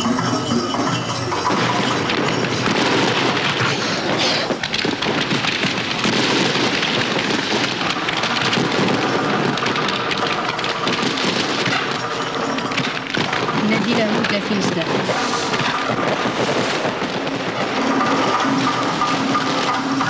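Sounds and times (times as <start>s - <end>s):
fireworks crackling and hissing: 0.0s - 20.0s.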